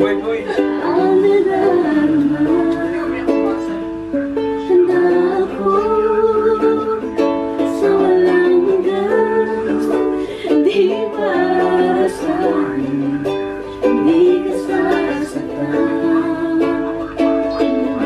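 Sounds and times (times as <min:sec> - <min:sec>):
ukulele strumming chords: 0:00.0 - 0:18.0
woman singing: 0:00.6 - 0:03.4, 0:04.4 - 0:18.0.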